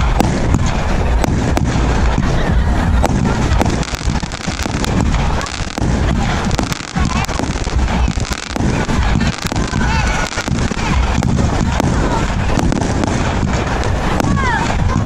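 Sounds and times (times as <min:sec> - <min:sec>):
continuous rumble: 0:00.0 - 0:15.0
fireworks bangs and crackles: 0:00.0 - 0:15.0.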